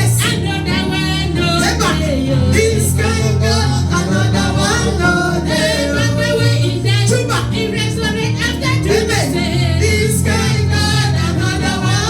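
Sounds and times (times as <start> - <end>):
choir singing: 0.0 - 12.0
instrumental backing with bass line: 0.0 - 12.0.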